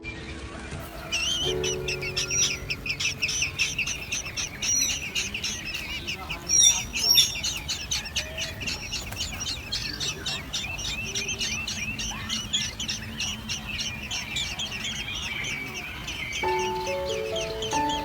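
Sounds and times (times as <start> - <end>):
nestling birds chirping rapidly: 0.0 - 18.0.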